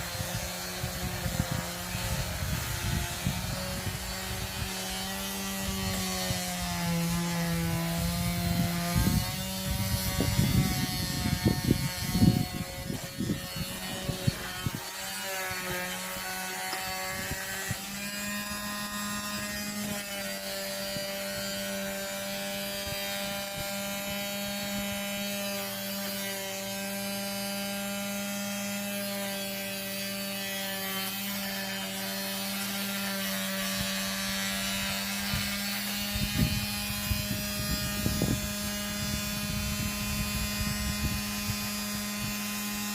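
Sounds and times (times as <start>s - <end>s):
electric sander on wood: 0.0s - 42.9s
sander rubbing and knocking: 0.0s - 42.9s.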